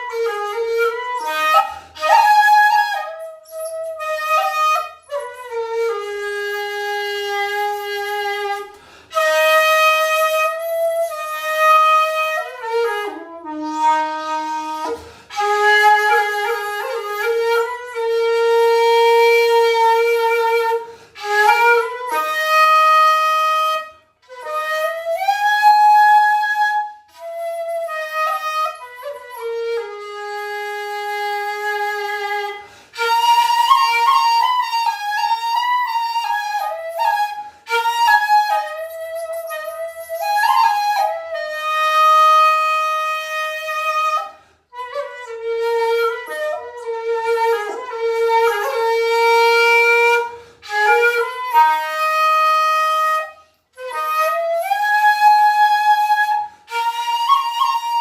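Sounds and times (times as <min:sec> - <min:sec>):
bamboo flute melody: 0:00.0 - 0:58.0.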